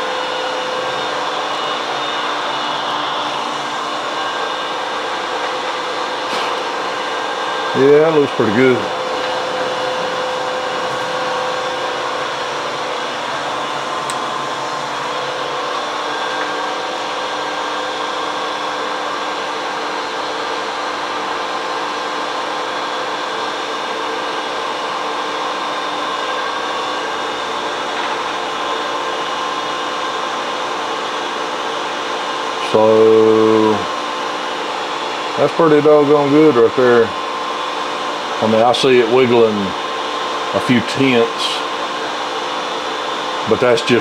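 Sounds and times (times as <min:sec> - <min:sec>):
lathe whirring: 0:00.0 - 0:44.0.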